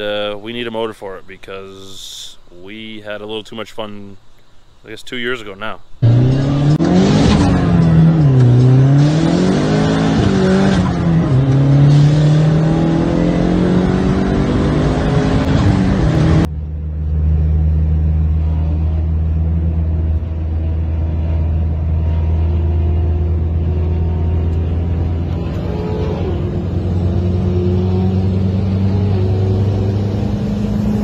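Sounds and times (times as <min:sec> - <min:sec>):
in-car engine drone: 0:05.9 - 0:31.0
car engine accelerating hard: 0:06.0 - 0:31.0.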